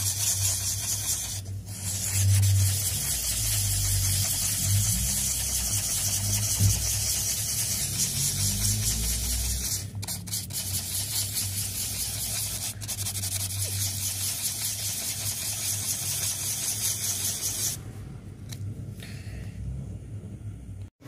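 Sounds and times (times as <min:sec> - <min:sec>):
sandpaper rasping on wood: 0:00.0 - 0:17.8.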